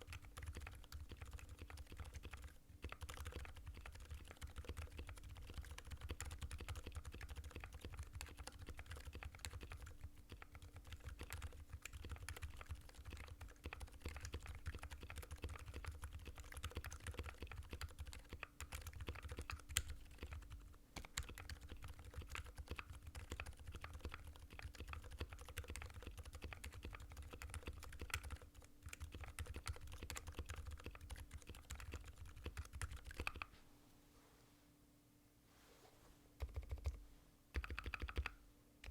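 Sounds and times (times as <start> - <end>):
muted keyboard typing: 0.0 - 33.5, 36.4 - 38.9.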